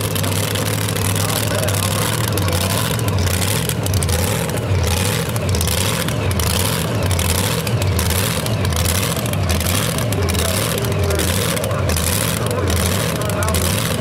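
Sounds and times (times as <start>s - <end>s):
truck engine idling lumpily: 0.0s - 14.0s.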